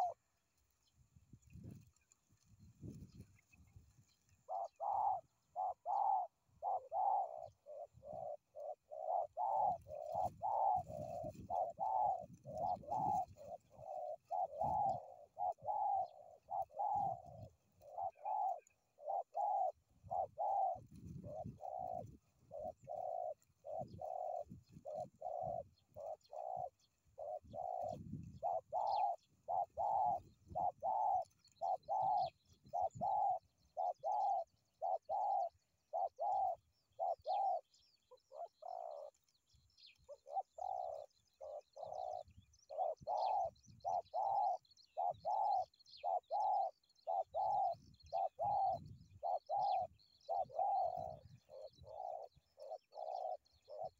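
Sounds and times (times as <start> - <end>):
doves cooing: 0.0 - 0.4, 1.5 - 53.9
small birds chirping faintly: 0.0 - 53.9.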